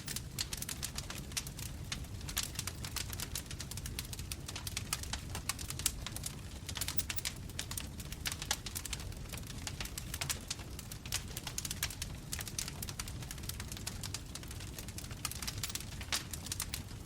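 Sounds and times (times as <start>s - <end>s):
bonfire crackling and popping: 0.0s - 17.0s
low rumble of flames: 0.0s - 17.0s.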